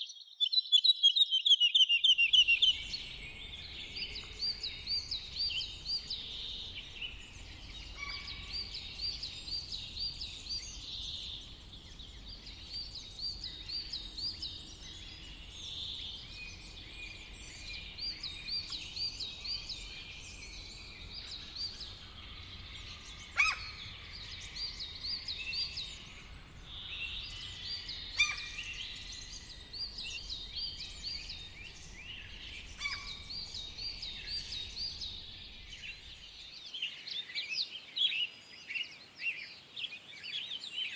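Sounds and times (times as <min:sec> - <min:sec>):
songbirds singing: 0:00.0 - 0:40.9
loud sharp bird calls: 0:01.8 - 0:36.4.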